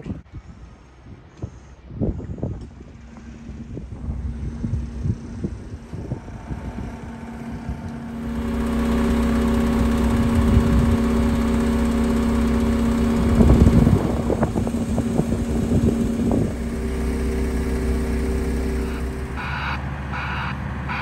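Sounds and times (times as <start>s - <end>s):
vehicle engine running: 1.5s - 21.0s.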